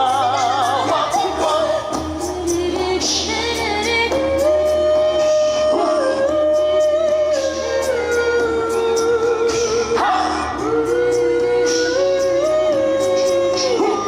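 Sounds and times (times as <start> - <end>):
choir singing a cappella: 0.0 - 14.0.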